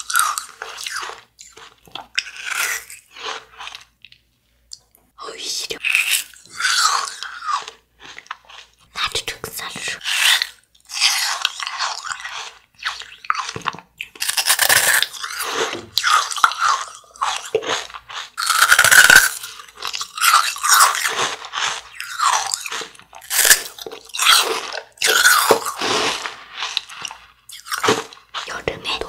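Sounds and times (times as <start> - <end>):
crunching candy: 0.0 - 4.2, 5.8 - 29.0.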